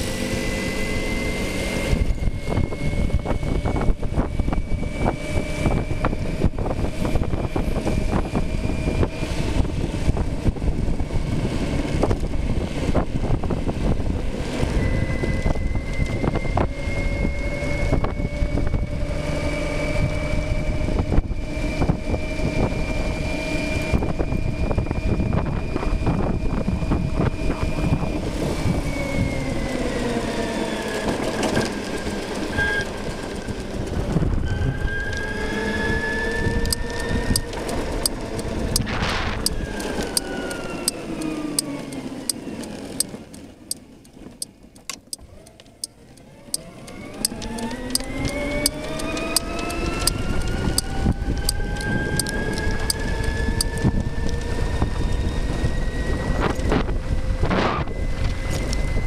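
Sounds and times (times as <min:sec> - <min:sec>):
electric scooter motor whine: 0:00.0 - 0:59.0
road noise: 0:00.0 - 0:59.0
wind: 0:00.0 - 0:59.0.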